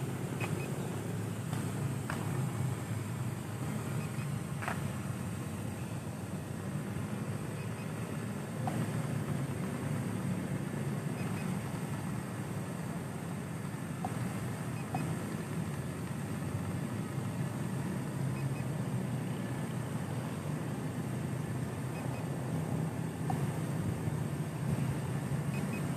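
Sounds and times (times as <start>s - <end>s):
faint high whine: 0.0s - 25.9s.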